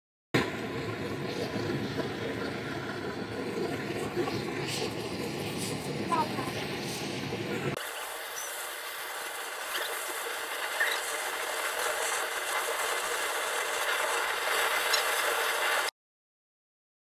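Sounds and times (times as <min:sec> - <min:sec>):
gas torch flame hissing: 0:00.5 - 0:15.9.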